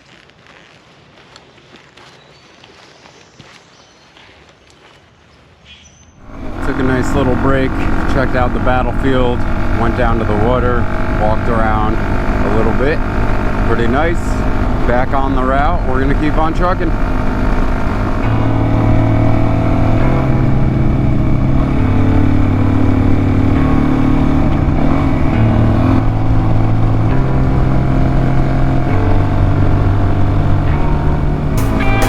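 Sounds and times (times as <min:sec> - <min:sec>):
motorcycle engine running: 0:06.2 - 0:32.0.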